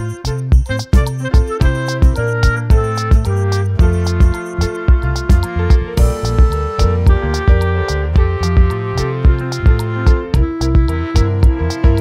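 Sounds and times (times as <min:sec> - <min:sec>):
held instrument notes: 0:00.0 - 0:12.0
regular drum pulse: 0:00.0 - 0:12.0.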